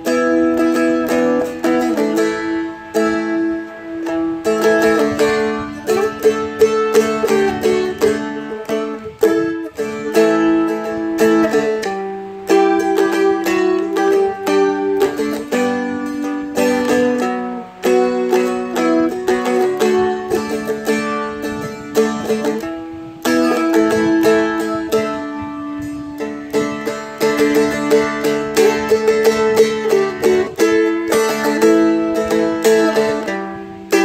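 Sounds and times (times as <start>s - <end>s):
fretted string instrument strummed: 0.0s - 34.0s.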